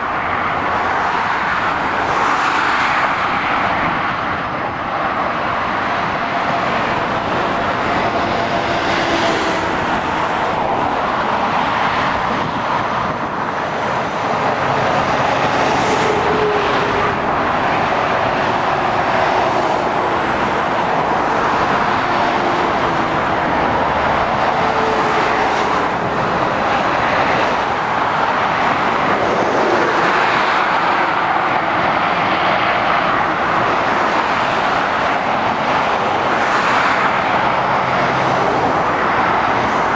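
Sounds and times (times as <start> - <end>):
diesel truck engines: 0.0 - 39.9
motorway traffic: 0.0 - 39.9.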